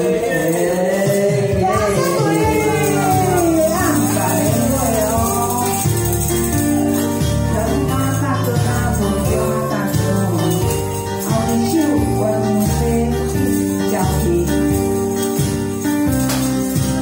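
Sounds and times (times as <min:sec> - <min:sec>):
jingle bells shaken: 0:00.0 - 0:17.0
sing-along backing music: 0:00.0 - 0:17.0
bass line: 0:01.3 - 0:17.0.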